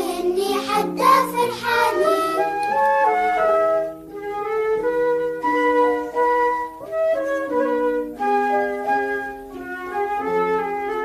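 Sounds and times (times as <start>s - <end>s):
flute-like woodwind melody: 0.0s - 11.0s.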